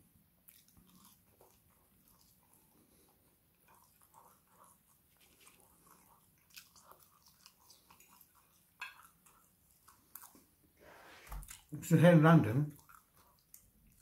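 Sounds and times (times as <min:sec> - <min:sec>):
chewing food: 0:00.1 - 0:11.8, 0:12.5 - 0:14.0.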